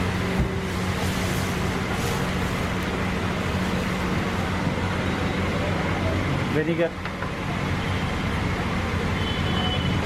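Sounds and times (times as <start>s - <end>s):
gas wok burner roaring: 0.0s - 10.0s.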